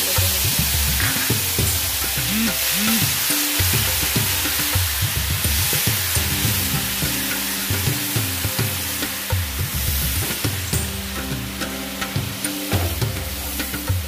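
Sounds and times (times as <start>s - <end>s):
background music: 0.0s - 14.0s
paste sizzling in hot oil: 0.0s - 14.0s.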